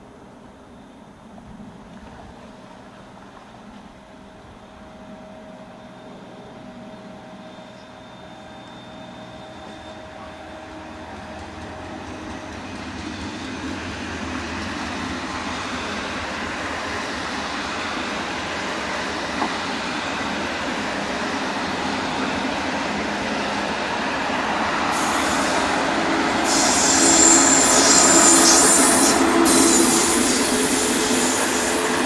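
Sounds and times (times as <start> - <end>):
wheels rushing on rail: 0.0 - 32.0.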